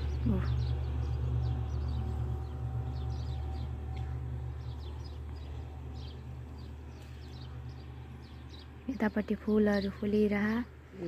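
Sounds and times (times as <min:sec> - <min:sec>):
bees humming: 0:00.0 - 0:10.8
small birds chirping: 0:00.0 - 0:11.0.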